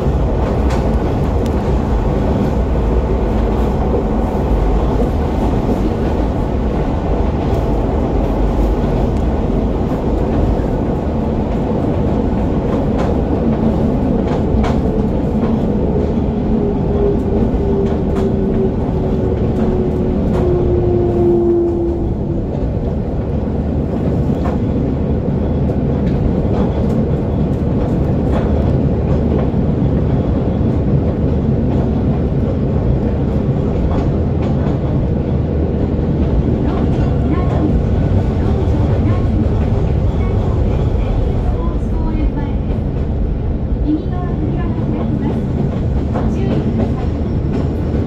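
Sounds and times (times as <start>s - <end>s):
rail joint clicks: 0.0s - 48.0s
train wheels rumbling on rail: 0.0s - 48.0s.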